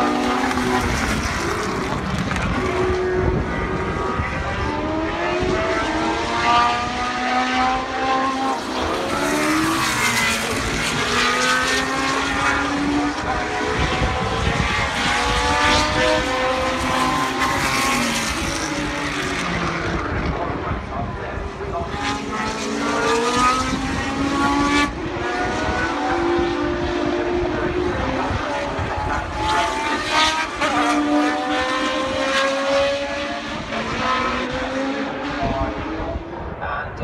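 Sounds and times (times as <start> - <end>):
racing car engines accelerating: 0.0 - 36.6.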